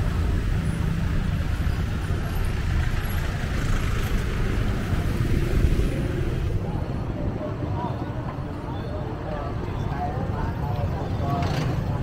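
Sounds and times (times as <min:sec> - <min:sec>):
rumble of passing traffic: 0:00.0 - 0:12.0.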